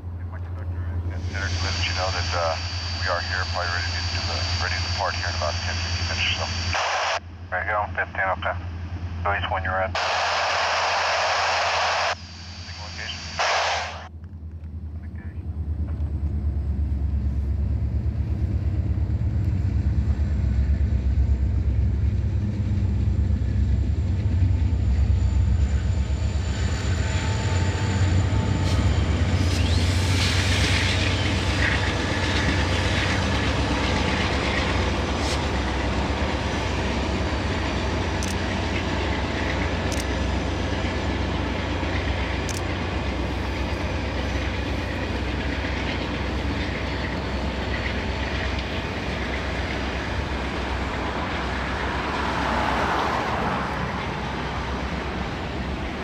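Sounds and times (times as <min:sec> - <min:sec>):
locomotive engine drone: 0:00.0 - 0:56.0.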